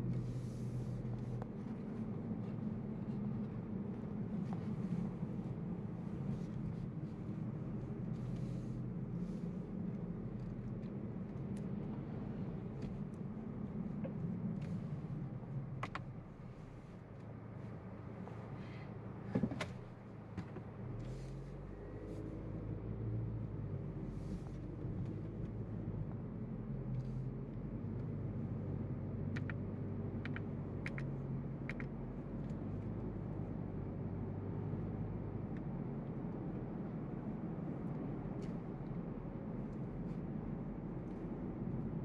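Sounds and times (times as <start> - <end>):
car engine drone: 0.0 - 42.0.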